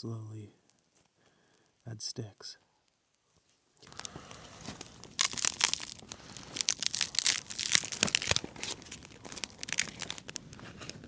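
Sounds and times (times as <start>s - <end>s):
sticks crackling on a fire: 0.6s - 1.9s, 2.8s - 11.0s.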